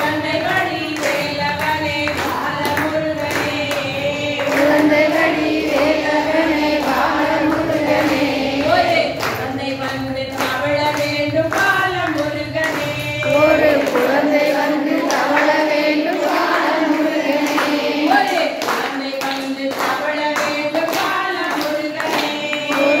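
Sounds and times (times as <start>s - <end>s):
hands clapping in rhythm: 0.0s - 23.0s
women singing together: 0.0s - 23.0s.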